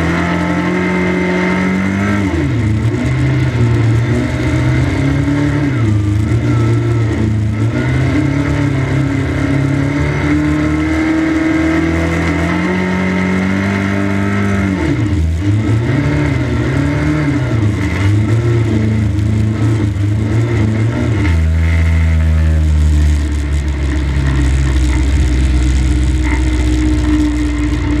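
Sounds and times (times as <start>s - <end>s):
car engine running hard: 0.0s - 28.0s.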